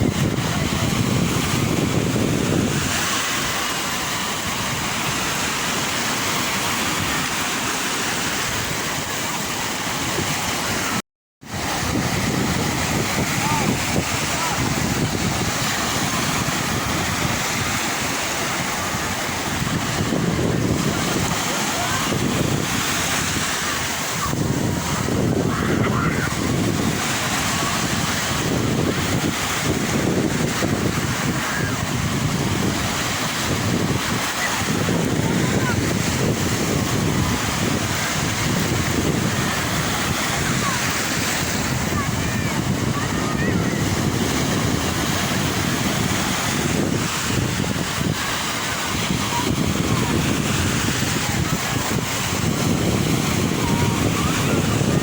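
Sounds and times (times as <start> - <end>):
sea waves washing: 0.0 - 55.0
wind buffeting microphone: 0.0 - 55.0.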